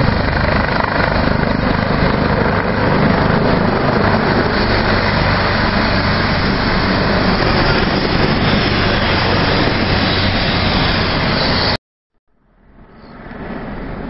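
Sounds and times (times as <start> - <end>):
helicopters running: 0.0 - 11.8, 12.8 - 14.0.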